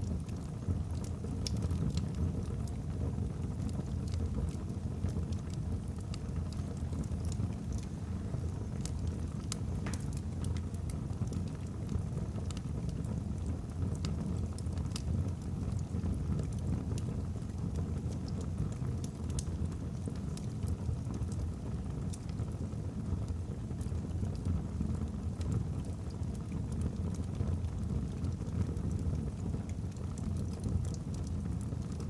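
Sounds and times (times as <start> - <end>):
logs crackling and popping: 0.0 - 32.0
low rumble of flame: 0.0 - 32.0.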